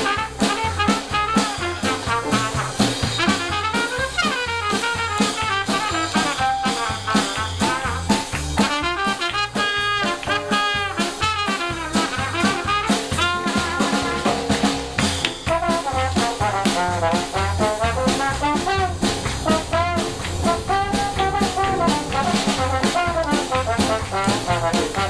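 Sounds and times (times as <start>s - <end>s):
jazz band playing swing: 0.0s - 25.0s.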